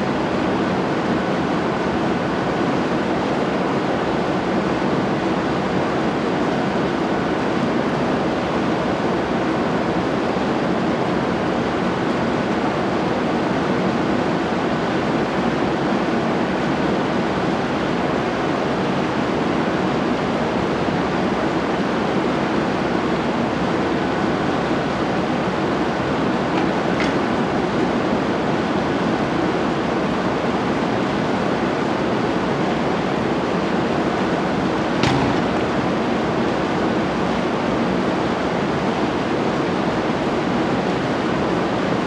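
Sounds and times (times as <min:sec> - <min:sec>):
stationary train rushing noise: 0:00.0 - 0:42.0.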